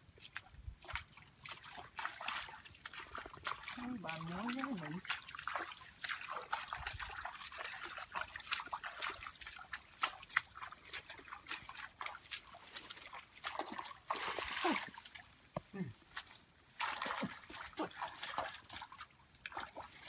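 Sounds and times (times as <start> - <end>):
feet wading through water: 0.0 - 20.0
water trickling: 0.2 - 20.0.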